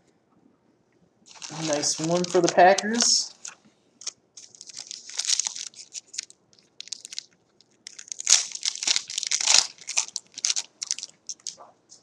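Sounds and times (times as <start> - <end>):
foil wrapper crinkling: 1.3 - 11.6.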